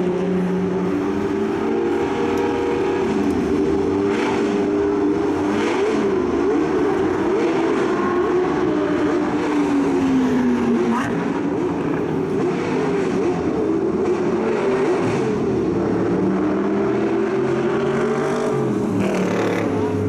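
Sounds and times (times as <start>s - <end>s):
car engines racing: 0.0s - 20.0s.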